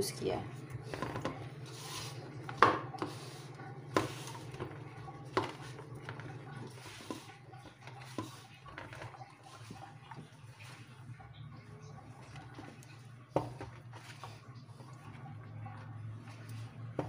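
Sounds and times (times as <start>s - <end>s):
dough squishing: 0.0s - 17.0s.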